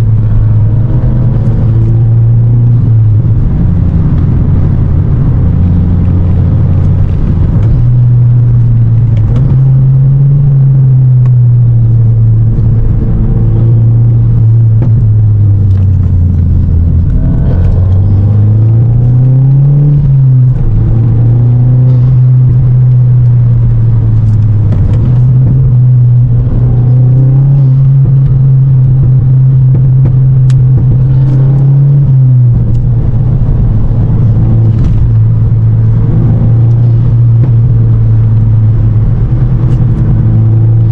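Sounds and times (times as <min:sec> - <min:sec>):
car engine droning: 0:00.0 - 0:40.9
road rumble: 0:00.0 - 0:40.9.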